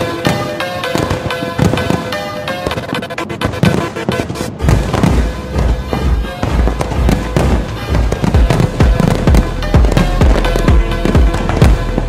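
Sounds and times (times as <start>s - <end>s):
fireworks bursting: 0.0s - 12.0s
music with heavy bass: 0.0s - 12.0s.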